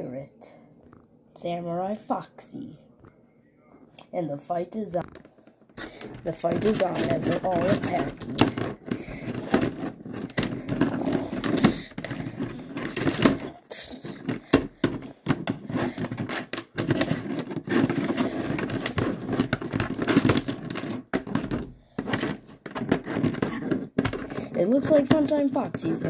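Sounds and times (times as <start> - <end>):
plastic toy pieces clacking: 5.1 - 26.0.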